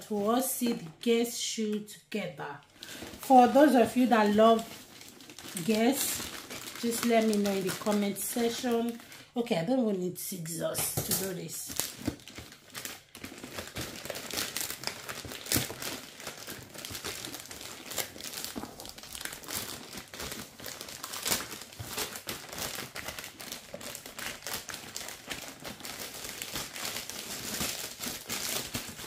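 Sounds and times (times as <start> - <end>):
packaging tearing and crinkling: 4.2 - 9.3, 10.8 - 29.0.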